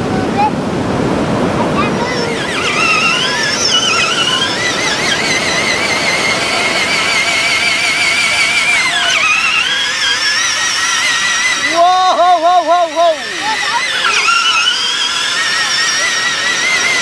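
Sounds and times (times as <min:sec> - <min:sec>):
toy truck electric motor whining: 0:01.6 - 0:17.0.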